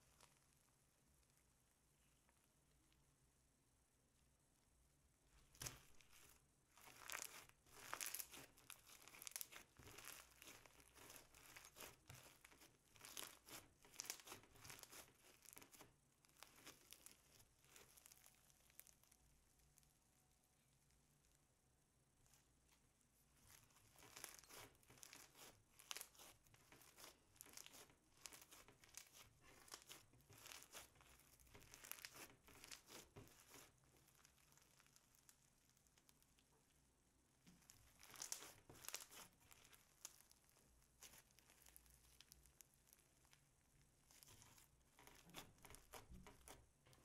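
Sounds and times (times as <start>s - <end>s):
foam bead slime crackling: 0.0s - 2.3s, 5.4s - 21.3s, 22.2s - 36.6s, 37.4s - 47.0s.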